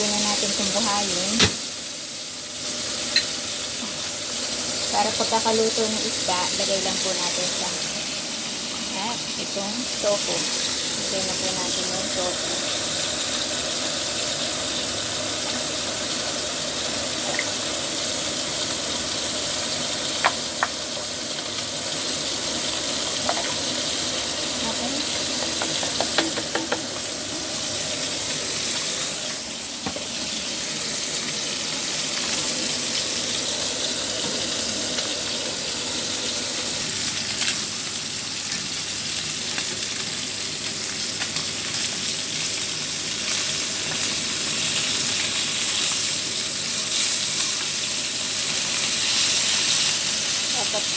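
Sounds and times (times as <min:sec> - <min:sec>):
tofu sizzling in hot oil: 0:00.0 - 0:50.9.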